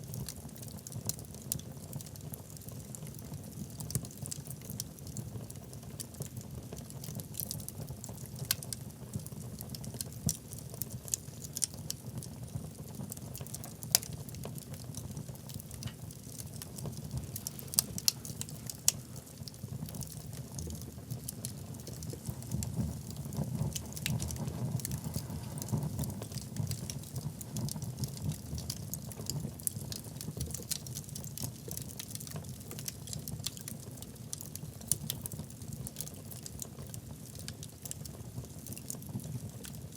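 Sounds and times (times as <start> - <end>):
fire burning rumble: 0.0 - 39.9
fire crackles and pops: 0.0 - 39.9.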